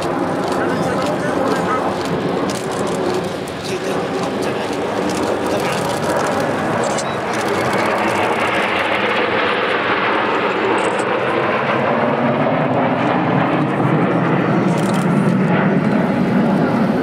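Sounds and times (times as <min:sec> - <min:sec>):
jet aircraft flying over: 0:00.0 - 0:17.0.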